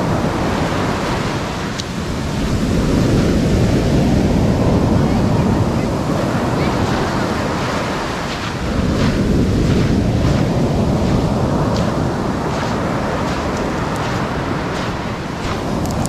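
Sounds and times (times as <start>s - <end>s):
small waves breaking on shore: 0.0s - 16.0s
wind rumble on microphone: 0.0s - 16.0s.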